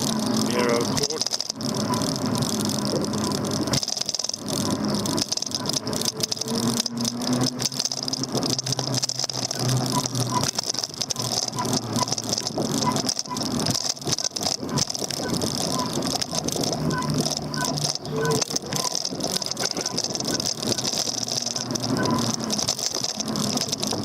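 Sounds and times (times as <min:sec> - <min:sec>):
e-bike motor hum: 0:00.0 - 0:24.0
e-bike rattling over road: 0:00.0 - 0:24.0.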